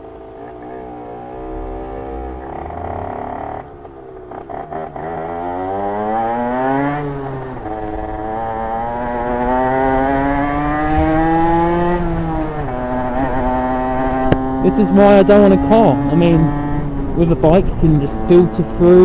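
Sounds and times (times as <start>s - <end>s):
moped engine accelerating: 0.0s - 19.0s.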